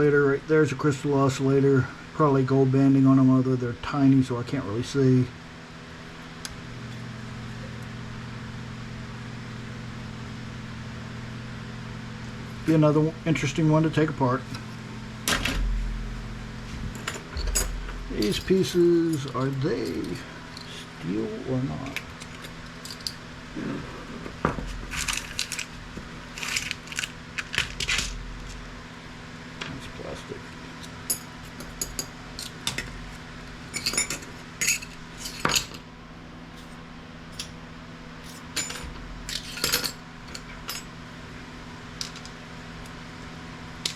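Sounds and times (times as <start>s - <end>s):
mechanical hum with low drone: 0.0s - 43.9s.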